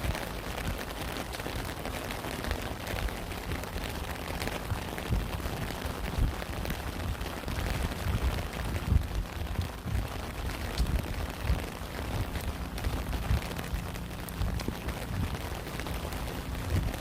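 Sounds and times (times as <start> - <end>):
heavy raindrops thudding: 0.0 - 17.0
steady rain patter: 0.0 - 17.0.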